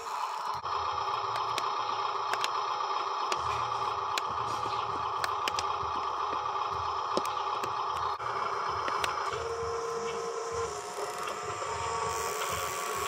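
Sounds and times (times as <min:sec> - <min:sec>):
low steady hum: 0:00.0 - 0:13.0
toy truck electric motor whining: 0:00.0 - 0:13.0.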